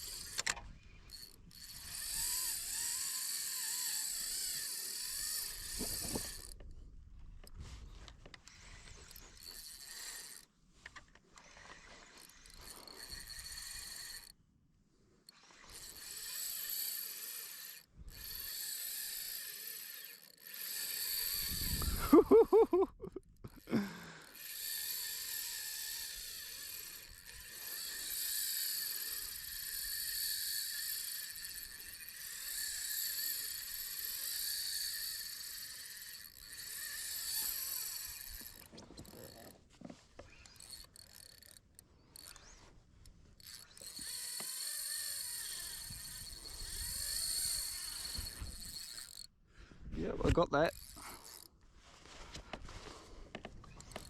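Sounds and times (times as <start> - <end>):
fishing reel clicking and buzzing: 0.0 - 6.7, 8.3 - 14.4, 15.2 - 42.7, 43.3 - 49.4, 50.5 - 51.6, 52.9 - 54.0.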